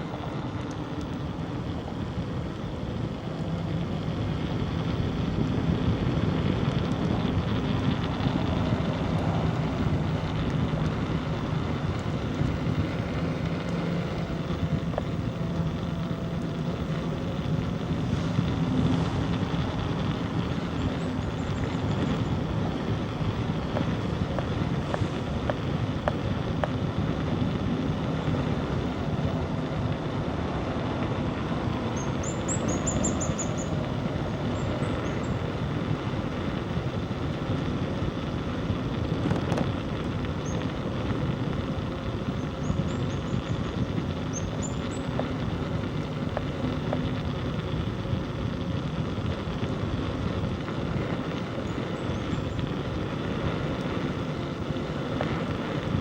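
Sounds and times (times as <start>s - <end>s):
vehicle engine running: 0.0s - 56.0s
wind noise on microphone: 0.0s - 56.0s.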